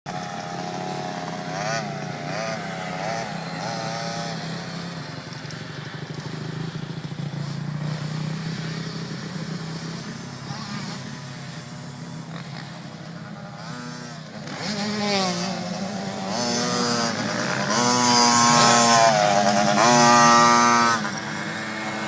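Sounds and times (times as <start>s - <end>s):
dirt bike engine revving: 0.1s - 22.0s.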